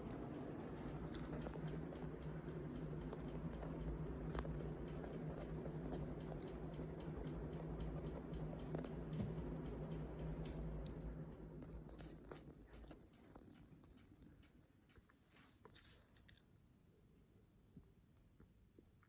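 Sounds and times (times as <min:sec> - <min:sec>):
ceiling fan humming and ticking: 0:00.0 - 0:18.9.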